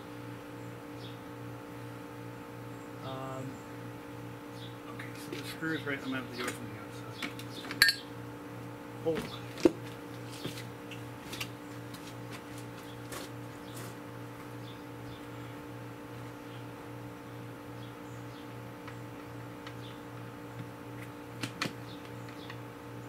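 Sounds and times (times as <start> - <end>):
low pulsing machine hum: 0.0 - 23.0.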